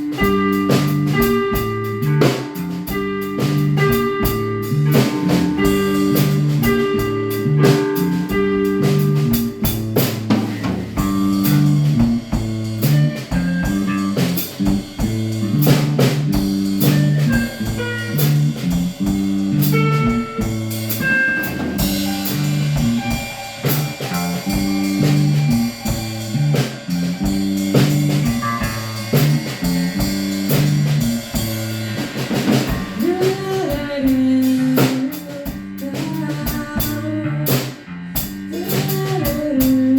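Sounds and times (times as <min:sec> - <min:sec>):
instrumental band music: 0:00.0 - 0:39.9.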